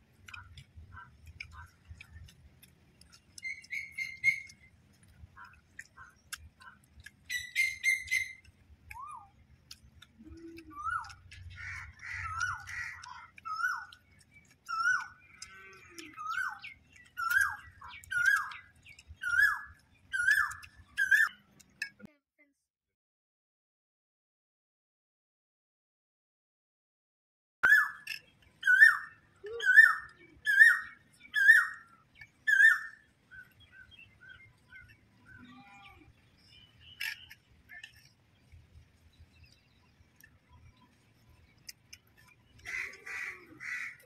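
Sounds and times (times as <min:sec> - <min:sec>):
bird calling: 0:00.2 - 0:21.9, 0:27.6 - 0:38.2, 0:39.0 - 0:44.0.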